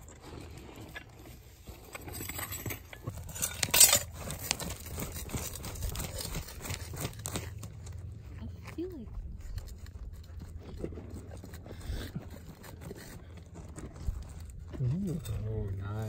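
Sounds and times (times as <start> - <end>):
hands digging gravelly dirt: 0.0 - 16.0.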